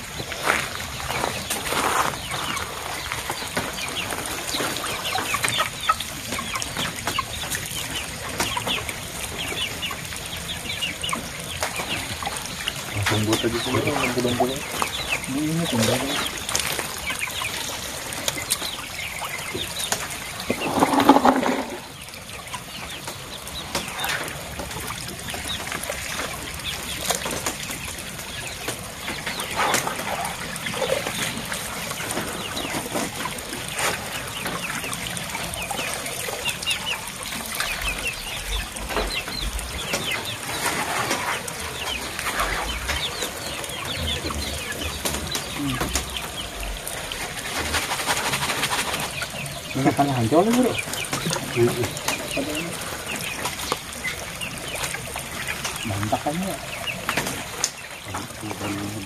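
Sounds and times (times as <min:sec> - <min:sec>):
poultry clucking: 0:00.0 - 0:59.0
water splashing and dripping: 0:00.0 - 0:59.0.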